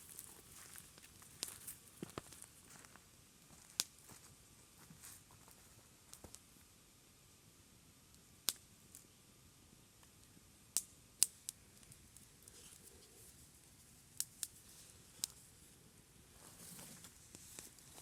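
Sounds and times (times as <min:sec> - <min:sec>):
faint background hiss: 0:00.0 - 0:18.0.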